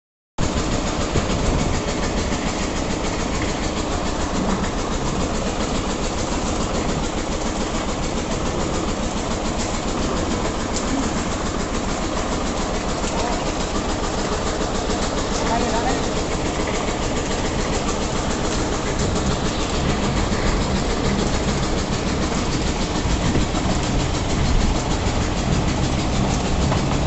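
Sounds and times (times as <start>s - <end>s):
heavy machinery rhythmic clatter: 0.4s - 27.0s.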